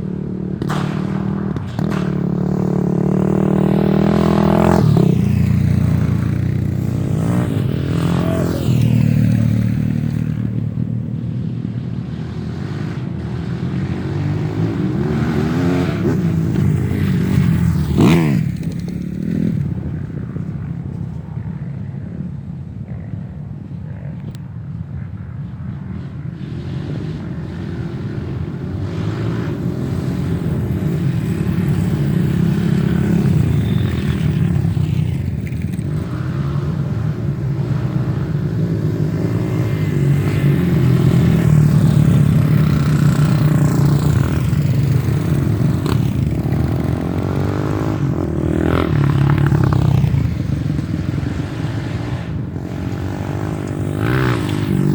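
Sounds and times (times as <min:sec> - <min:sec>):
motorcycle engines revving: 0:00.0 - 0:54.9.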